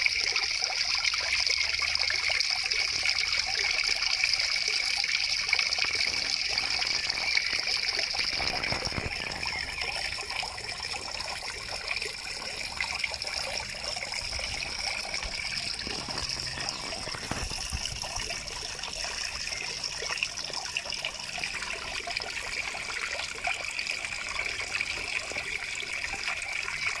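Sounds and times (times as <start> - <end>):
waterfall trickling into pond: 0.0 - 27.0.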